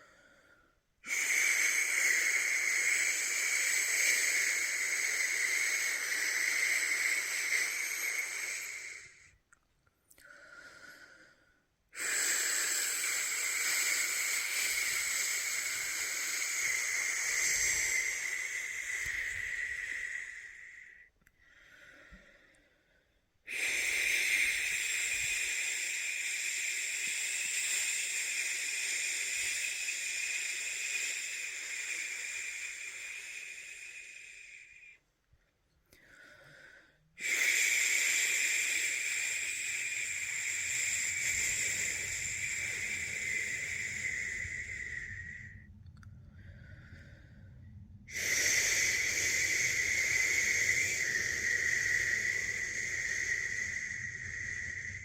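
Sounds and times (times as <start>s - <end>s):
faint breath: 0.0s - 55.0s.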